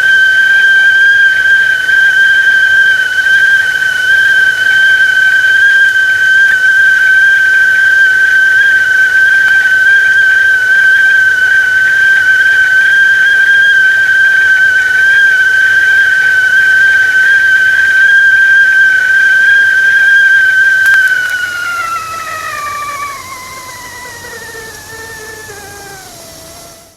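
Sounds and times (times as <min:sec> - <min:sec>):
tea kettle whistling: 0:00.0 - 0:26.9.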